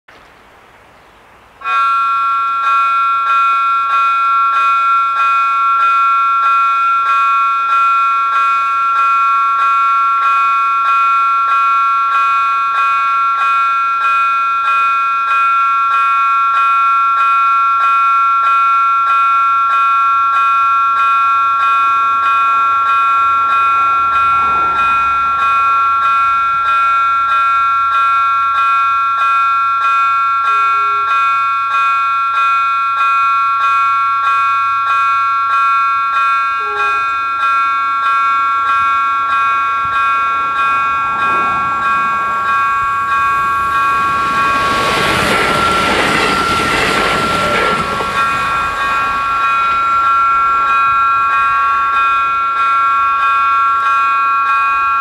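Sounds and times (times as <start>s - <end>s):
level crossing bells ringing: 1.6s - 55.0s.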